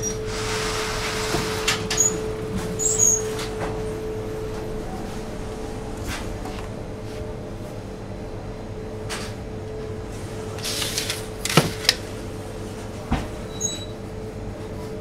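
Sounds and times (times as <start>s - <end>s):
steady hum: 0.0s - 13.4s.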